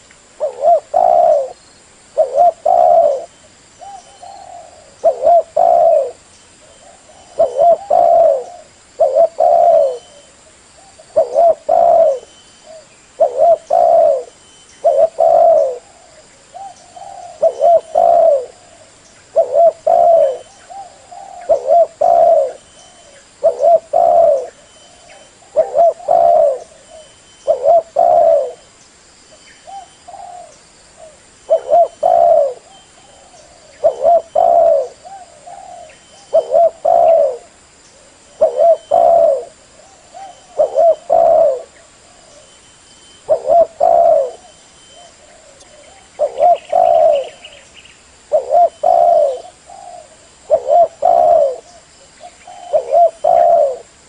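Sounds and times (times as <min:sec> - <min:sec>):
dove cooing: 0:00.0 - 0:01.6, 0:02.2 - 0:28.7, 0:29.6 - 0:54.0.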